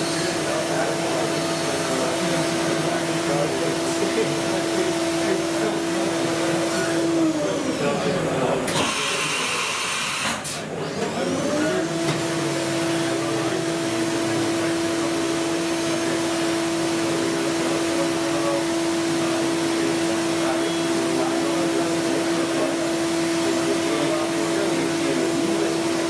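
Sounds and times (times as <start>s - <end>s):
milling machine spindle humming: 0.0s - 26.0s.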